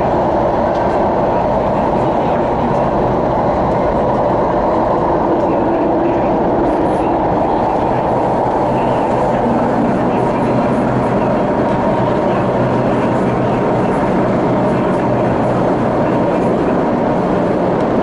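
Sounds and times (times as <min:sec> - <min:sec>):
train carriage noise: 0:00.0 - 0:18.0
train wheels rumbling on rail: 0:00.0 - 0:18.0.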